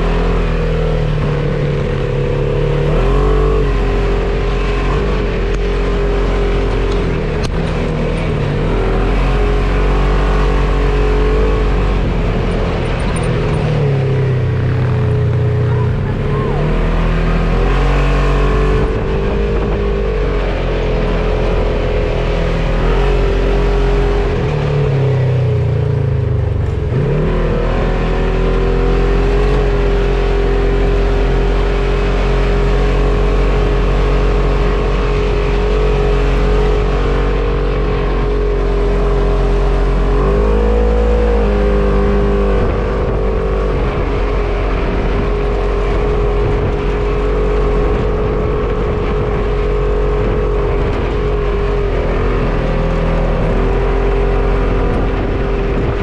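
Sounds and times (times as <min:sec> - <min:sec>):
off-road vehicle engine running: 0:00.0 - 0:56.0.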